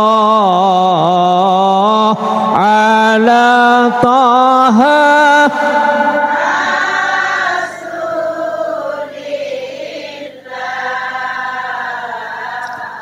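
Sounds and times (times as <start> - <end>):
congregation singing a refrain: 0.0 - 13.0.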